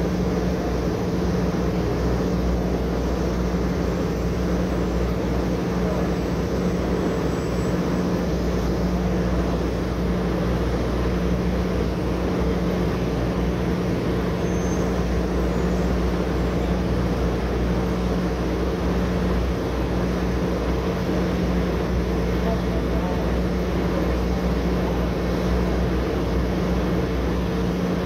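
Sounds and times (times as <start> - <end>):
drilling rig engines droning: 0.0 - 28.0.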